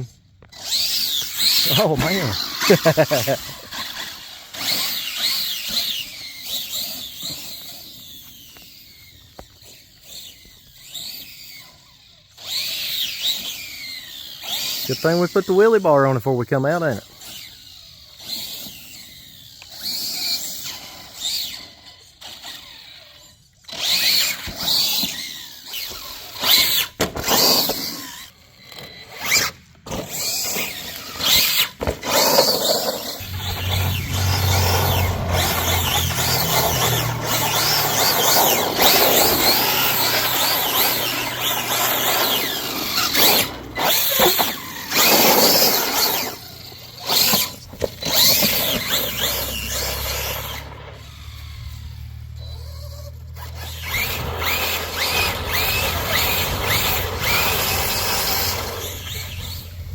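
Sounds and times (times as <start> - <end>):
rc truck electric motor whining: 0.0 - 59.9.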